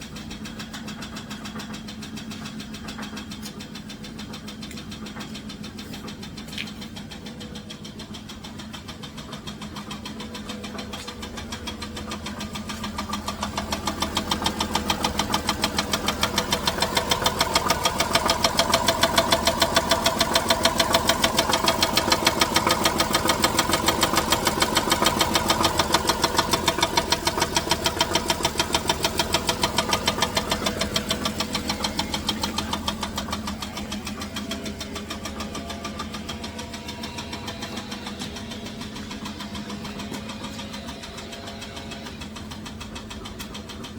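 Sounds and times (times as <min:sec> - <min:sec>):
engine running with rhythmic knock: 0:00.0 - 0:43.9.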